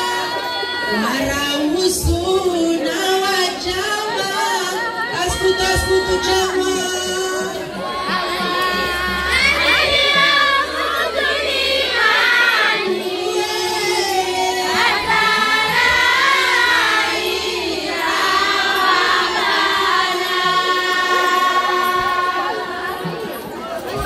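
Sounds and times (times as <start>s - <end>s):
women's choir chanting: 0.0s - 24.0s.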